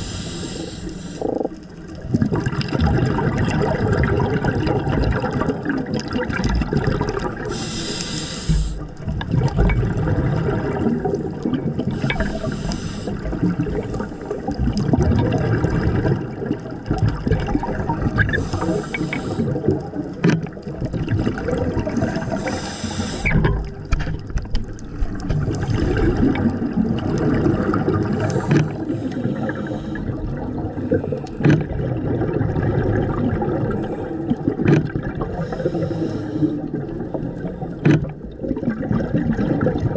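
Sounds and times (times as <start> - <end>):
regulator exhaling bubbles: 0.0 - 23.8, 24.8 - 39.9
low underwater rumble: 0.0 - 39.9.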